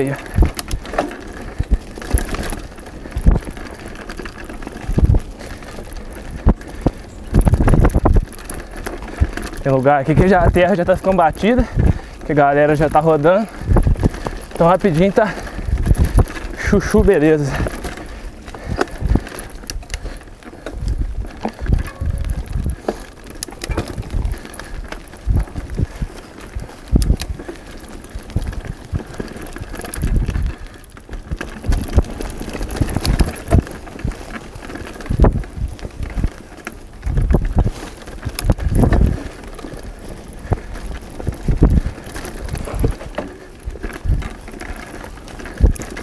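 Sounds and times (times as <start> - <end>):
bike knocking and rattling: 0.0 - 46.0
tyres on dirt: 0.0 - 46.0
wind on microphone: 0.0 - 46.0.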